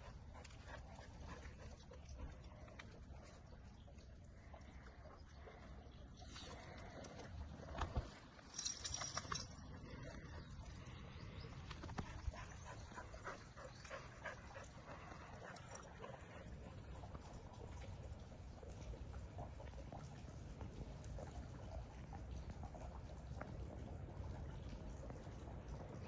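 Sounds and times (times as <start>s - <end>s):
faint ticks and rustling: 0.0s - 26.0s.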